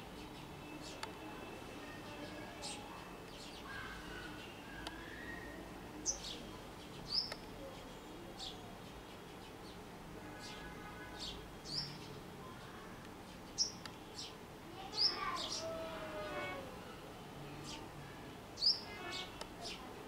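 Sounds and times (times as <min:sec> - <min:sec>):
sparrows chirping: 0:00.0 - 0:16.6, 0:17.6 - 0:19.9.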